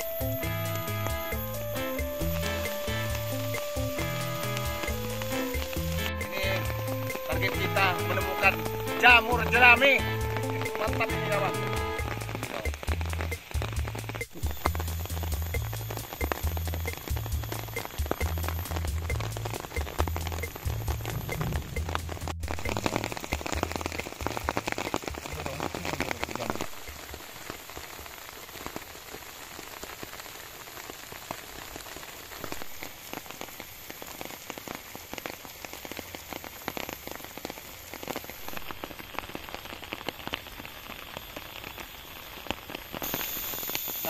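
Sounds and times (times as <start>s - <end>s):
rain on leaves and straw: 0.0s - 44.0s.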